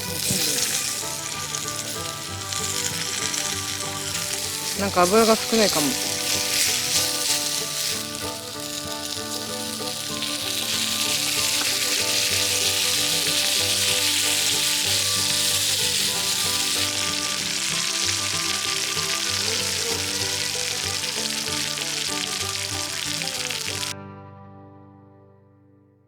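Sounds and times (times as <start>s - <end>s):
food sizzling in oil: 0.0s - 23.9s
background music: 0.0s - 25.4s.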